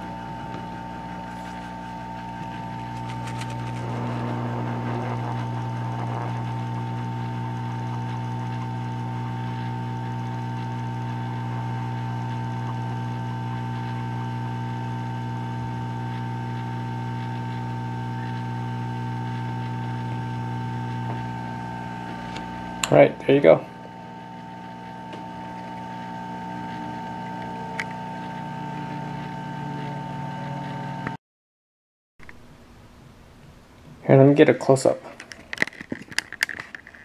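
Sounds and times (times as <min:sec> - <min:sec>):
hot air blower humming: 0:00.0 - 0:31.2.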